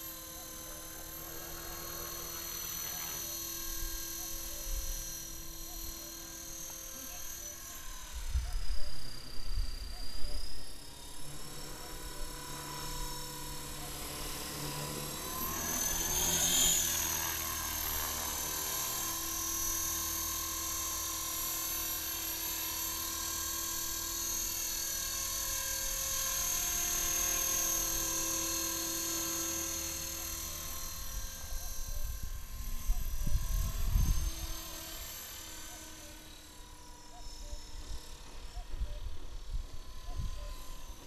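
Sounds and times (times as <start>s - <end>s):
rc helicopter motor whine: 0.0s - 41.0s.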